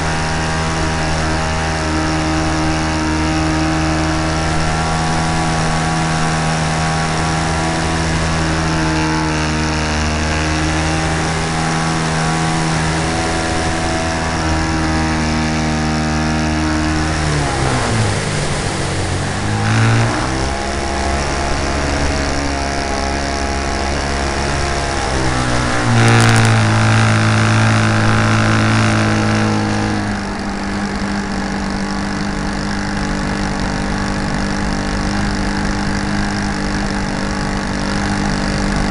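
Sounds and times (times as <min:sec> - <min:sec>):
model airplane engine running: 0:00.0 - 0:38.9.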